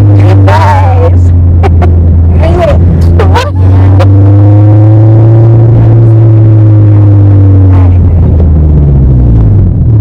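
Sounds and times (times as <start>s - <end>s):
car engine hum from inside cabin: 0.0s - 10.0s.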